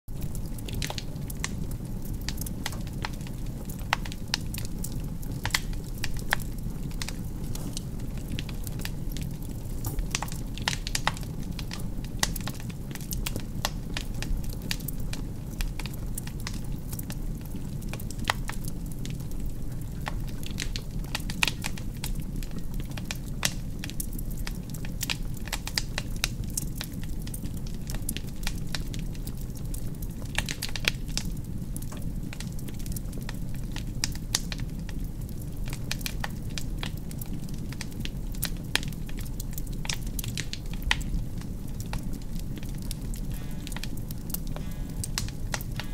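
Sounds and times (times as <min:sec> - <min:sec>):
fire crackling in fireplace: 0:00.1 - 0:45.9.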